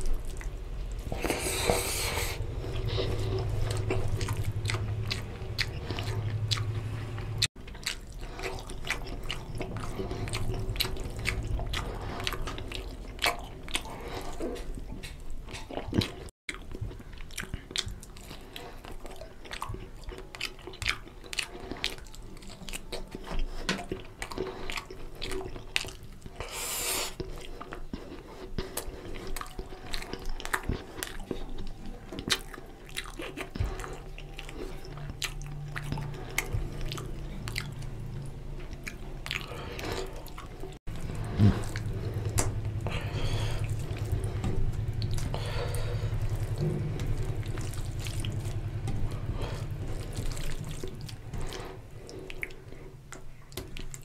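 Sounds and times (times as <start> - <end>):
steady low hum: 0.0 - 20.3, 27.3 - 53.5
chewing and lip smacking: 0.0 - 54.0.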